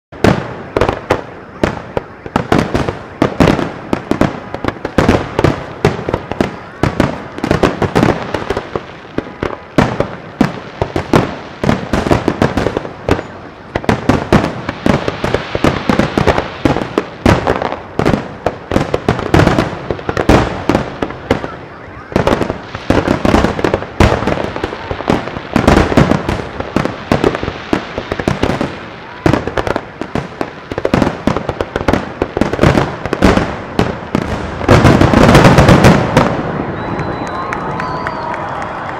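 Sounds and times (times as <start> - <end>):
fireworks bursting and crackling: 0.1 - 38.9.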